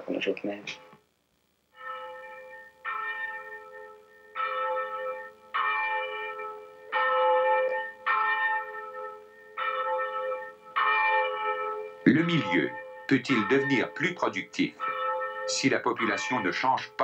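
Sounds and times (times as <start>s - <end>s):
church bell tolling: 1.8s - 17.0s.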